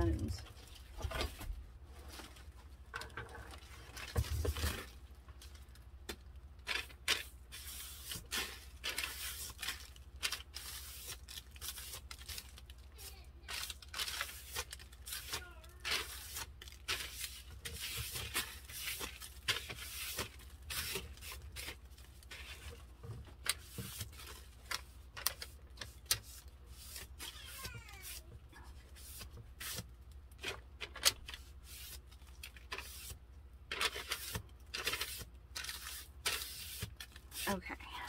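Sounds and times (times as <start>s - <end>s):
hands rustling supplies: 0.1s - 38.0s.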